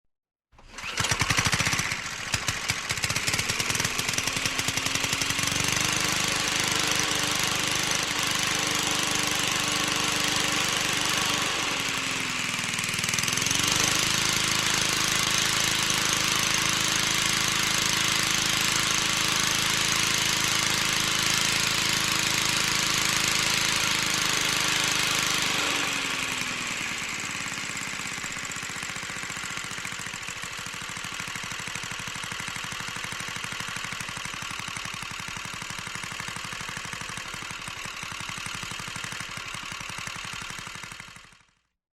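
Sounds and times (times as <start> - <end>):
auto rickshaw engine running: 0.6 - 41.6.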